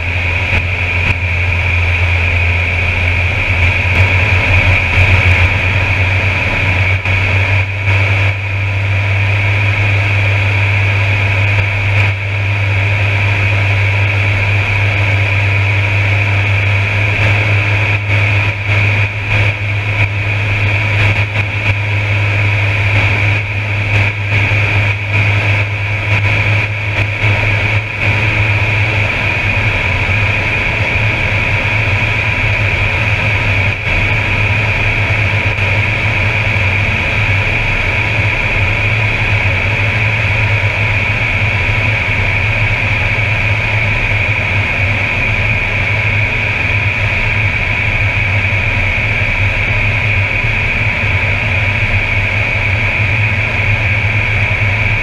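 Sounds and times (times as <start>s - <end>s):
high engine whine: 0.0s - 55.0s
propeller engine drone: 0.0s - 55.0s.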